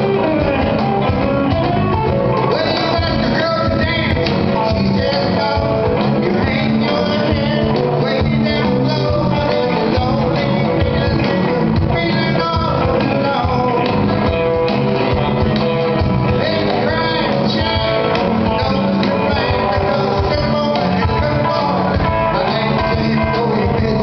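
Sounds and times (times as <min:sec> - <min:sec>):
acoustic guitar: 0:00.0 - 0:24.0
cajon beat: 0:00.0 - 0:24.0
electric bass: 0:00.0 - 0:24.0.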